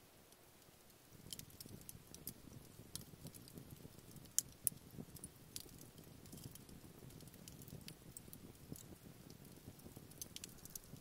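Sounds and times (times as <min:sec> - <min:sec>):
campfire crackling and popping: 0:00.2 - 0:11.0.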